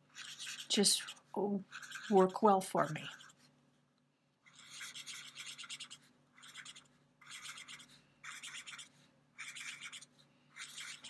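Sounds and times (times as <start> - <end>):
marker scratching on plastic: 0.0 - 2.4, 3.0 - 3.6, 4.4 - 11.0.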